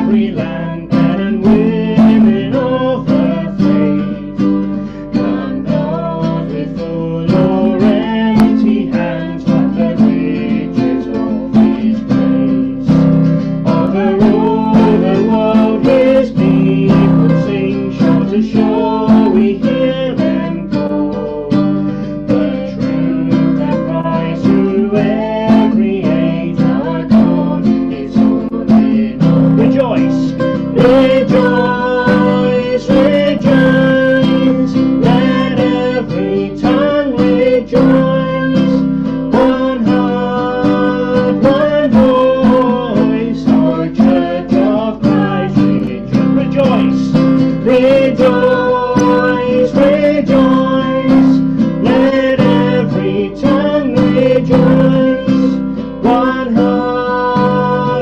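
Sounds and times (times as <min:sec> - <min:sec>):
acoustic guitar strumming chords: 0:00.0 - 0:58.0
man and woman singing: 0:00.0 - 0:58.0.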